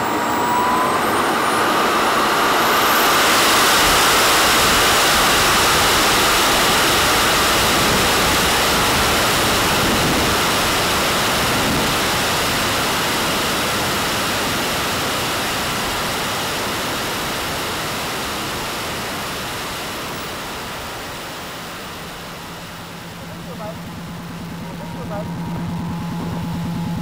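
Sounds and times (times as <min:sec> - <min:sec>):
model jet engines roaring: 0:00.0 - 0:27.0.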